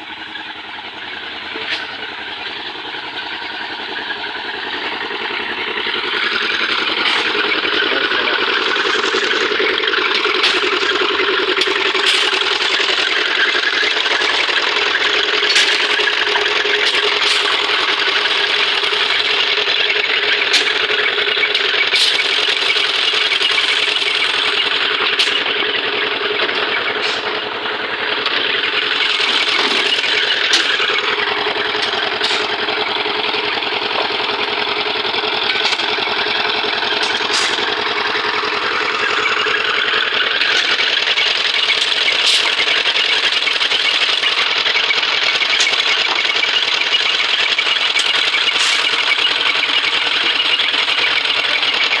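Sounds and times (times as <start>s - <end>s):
construction machinery engine running: 0.0s - 52.0s.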